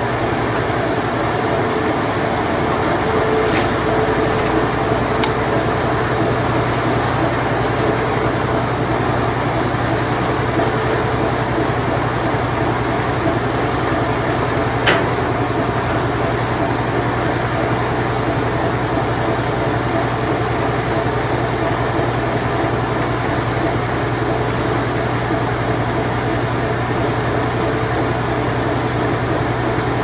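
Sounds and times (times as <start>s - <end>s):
washing machine spin cycle hum: 0.0s - 30.0s.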